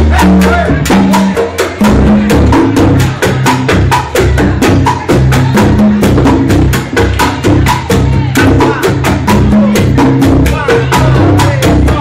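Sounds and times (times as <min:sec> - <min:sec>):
congas and timbales strikes: 0:00.0 - 0:12.0
latin jazz band playing: 0:00.0 - 0:12.0
upright bass line: 0:00.0 - 0:12.0.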